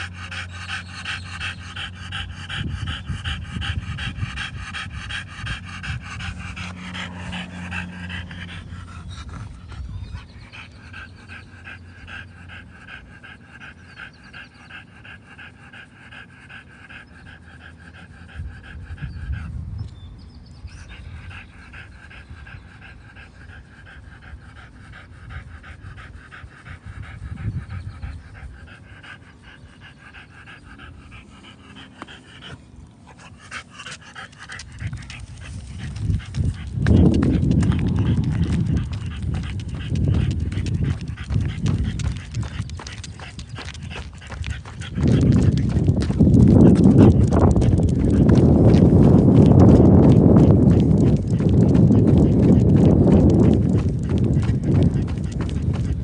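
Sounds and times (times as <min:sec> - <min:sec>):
low rumble: 0:00.0 - 0:14.2, 0:16.6 - 0:56.0
dog panting rapidly: 0:00.0 - 0:19.8, 0:20.6 - 0:56.0.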